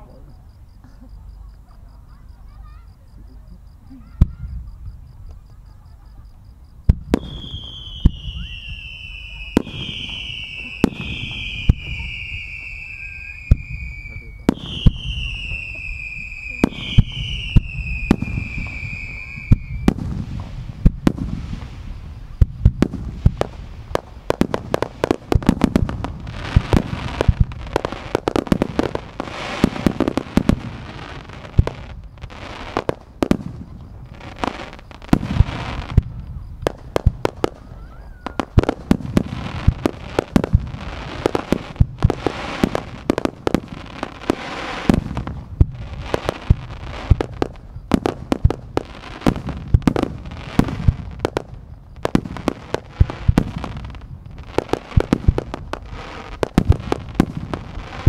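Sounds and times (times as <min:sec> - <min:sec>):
fireworks booming: 0:00.0 - 0:58.0
firework hiss: 0:06.9 - 0:58.0.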